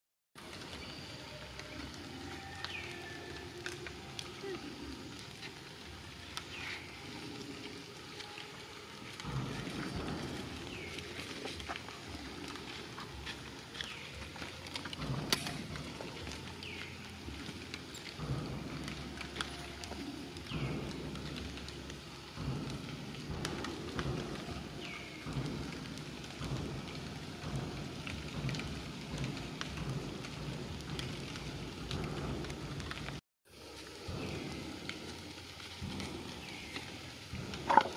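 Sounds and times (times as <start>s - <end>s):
clicks and rustles in leaves: 0.4s - 37.9s
low uneven rumble: 0.4s - 37.9s.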